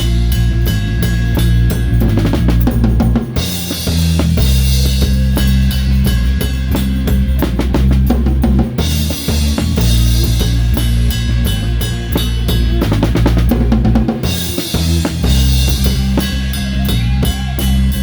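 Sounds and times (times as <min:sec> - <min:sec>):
bass guitar notes: 0:00.0 - 0:18.0
live rock band playing: 0:00.0 - 0:18.0.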